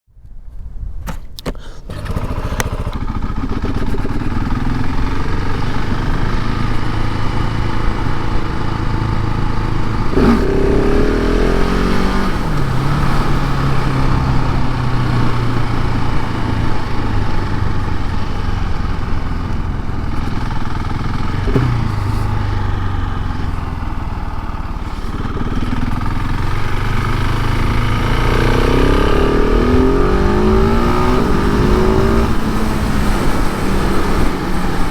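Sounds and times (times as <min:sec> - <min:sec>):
motorcycle engine revving: 0:01.4 - 0:34.9.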